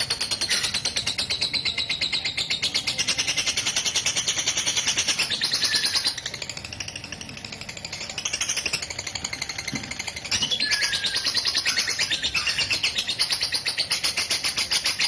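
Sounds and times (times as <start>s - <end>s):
bird rapid chattering song: 0.0s - 15.0s.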